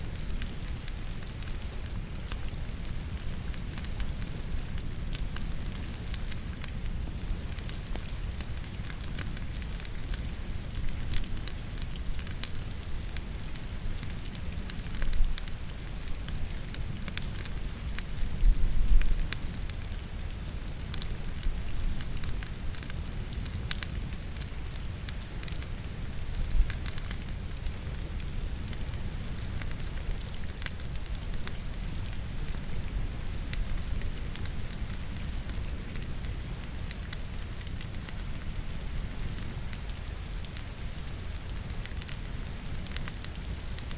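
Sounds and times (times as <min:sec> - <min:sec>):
logs crackling and popping: 0:00.0 - 0:43.9
steady rain: 0:00.0 - 0:43.9.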